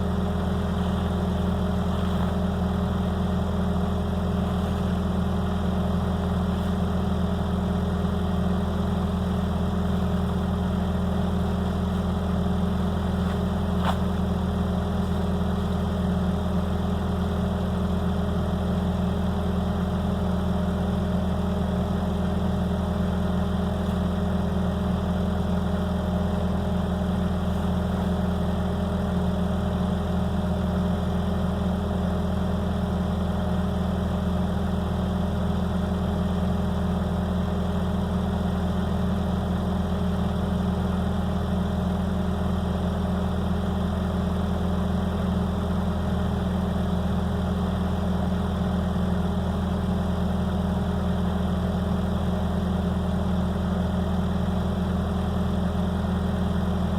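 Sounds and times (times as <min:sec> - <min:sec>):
skid steer engine humming: 0:00.0 - 0:56.9.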